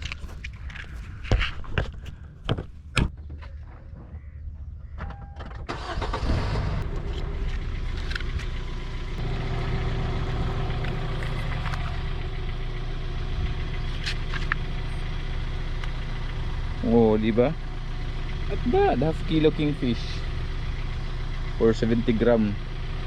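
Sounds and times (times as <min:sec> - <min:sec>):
car engine starting and idling: 0:04.2 - 0:23.0.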